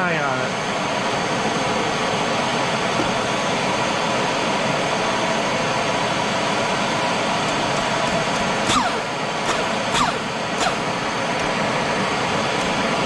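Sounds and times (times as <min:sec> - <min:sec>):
air grinder whine: 0:01.0 - 0:13.0.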